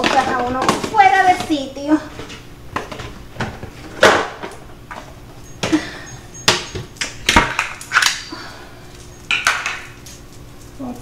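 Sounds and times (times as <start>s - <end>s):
kitchen items knocking and clattering: 0.0s - 8.2s, 9.3s - 10.0s.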